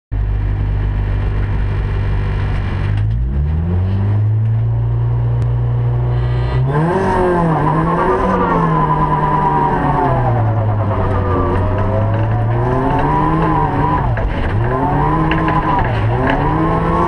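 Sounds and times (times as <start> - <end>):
car engine revving: 0.4 - 17.0.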